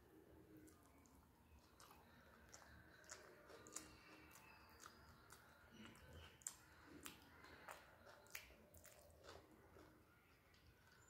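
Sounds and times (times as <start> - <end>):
person chewing rice: 0.0 - 11.0.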